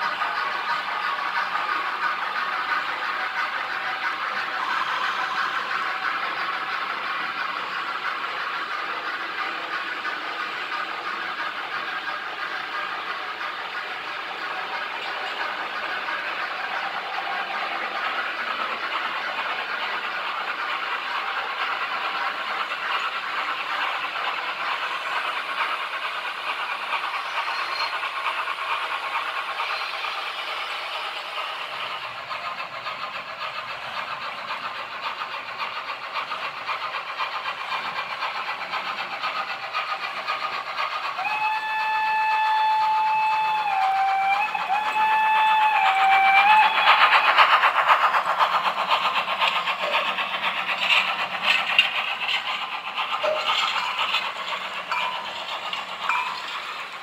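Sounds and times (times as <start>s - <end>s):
model locomotive motor hum: 0.0s - 57.0s
model train wheels rattling on rails: 0.0s - 57.0s.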